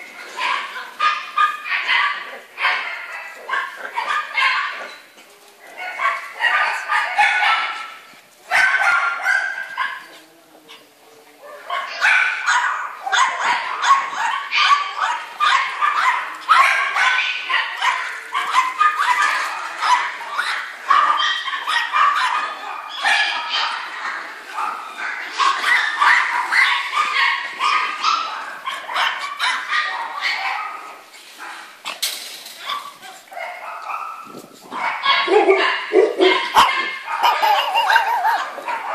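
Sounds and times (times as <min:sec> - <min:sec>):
small dogs yapping: 0:00.0 - 0:05.1, 0:11.5 - 0:38.9.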